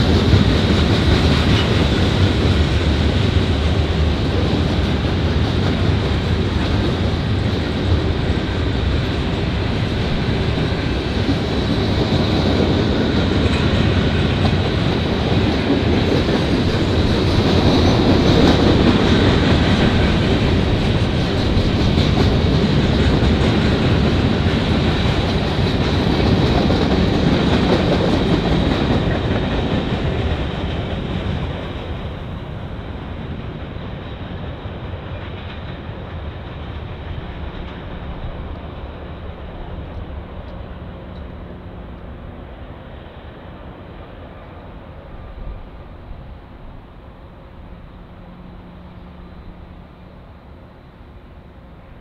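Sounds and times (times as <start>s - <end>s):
freight train wheels on rails: 0.0s - 52.0s.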